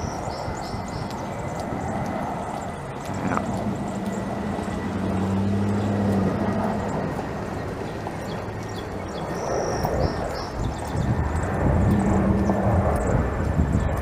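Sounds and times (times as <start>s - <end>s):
passing vehicle drone: 0.0s - 14.0s.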